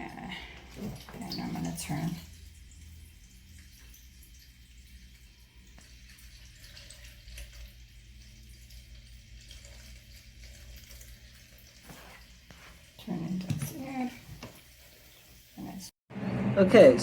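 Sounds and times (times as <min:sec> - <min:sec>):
water trickling from drain hose: 0:00.0 - 0:15.9.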